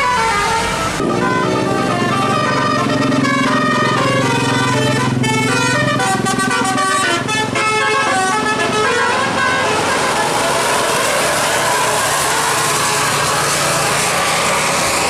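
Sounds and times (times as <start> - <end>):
musical air horn melody: 0.0 - 14.0.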